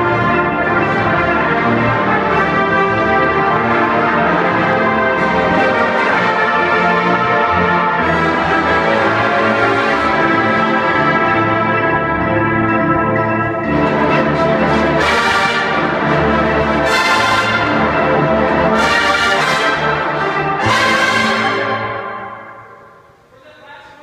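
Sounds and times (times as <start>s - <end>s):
brass line playing chords: 0.0s - 23.3s.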